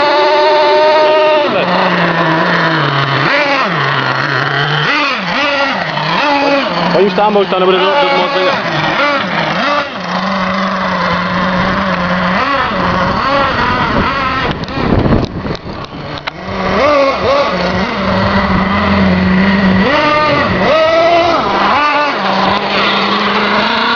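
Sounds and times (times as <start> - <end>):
small engine revving: 0.0 - 23.9
steady hum: 0.0 - 23.9.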